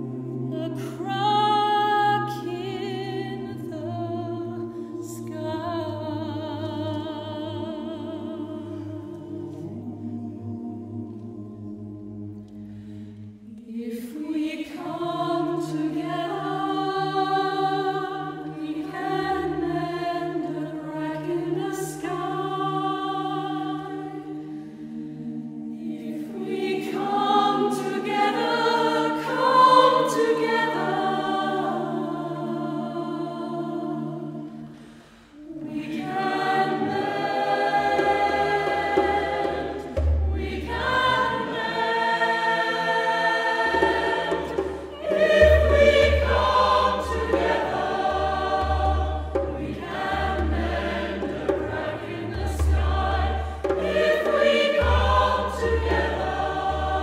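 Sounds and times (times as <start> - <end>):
choir singing long chords: 0.0 - 57.0.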